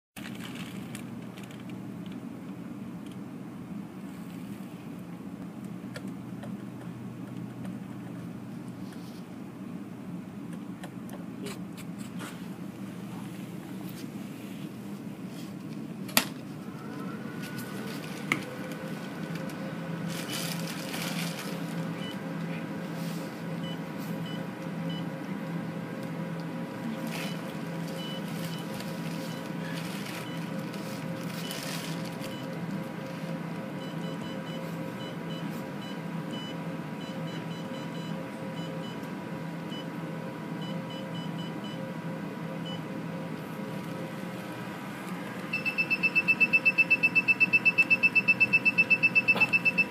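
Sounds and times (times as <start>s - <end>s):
machine fans humming and whining: 0.2s - 49.9s.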